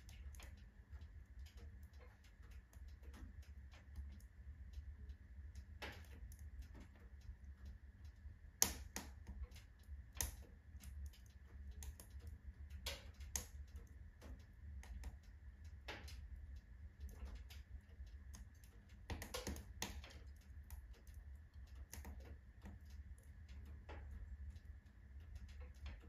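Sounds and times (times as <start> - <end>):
firewood crackling in stove: 0.0 - 26.0.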